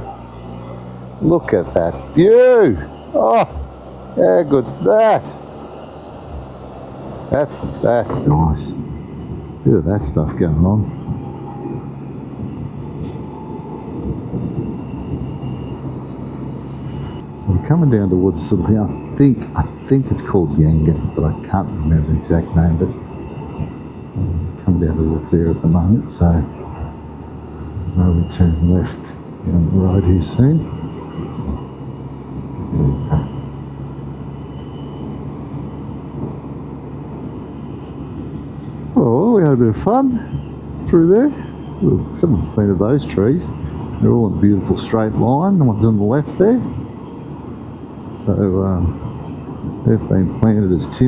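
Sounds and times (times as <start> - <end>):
road and wind noise: 0.0 - 51.0
three-wheeler engine running: 0.0 - 51.0.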